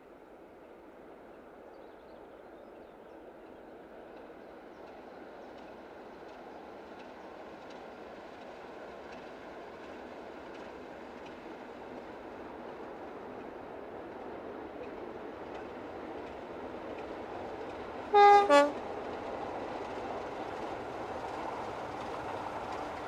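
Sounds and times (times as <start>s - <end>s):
distant diesel locomotive rumble: 2.2s - 23.0s.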